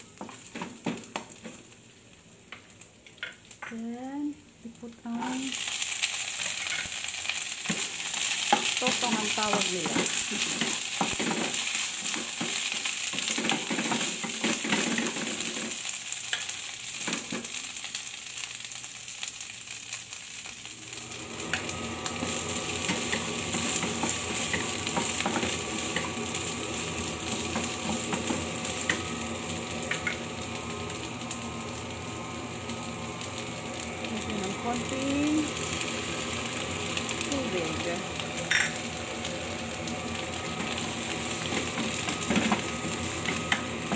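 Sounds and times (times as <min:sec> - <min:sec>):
food sizzling in a wok: 0:00.0 - 0:43.9.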